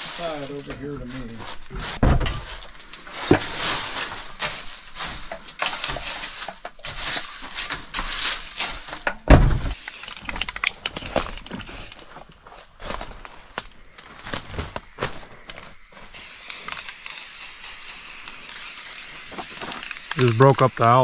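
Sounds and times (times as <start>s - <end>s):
dry leaves rustling and scraping: 0.0s - 21.0s.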